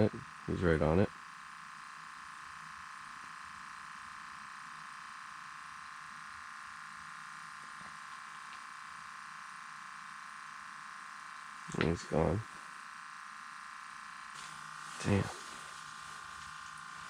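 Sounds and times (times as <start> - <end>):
faint high-pitched hum: 0.0 - 12.7, 13.8 - 17.0.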